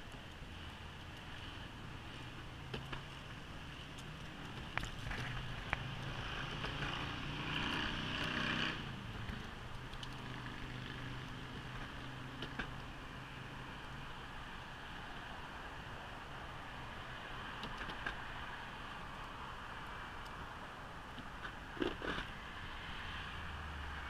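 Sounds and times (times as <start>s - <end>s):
wheels clicking over pavement joints: 0.0s - 22.9s.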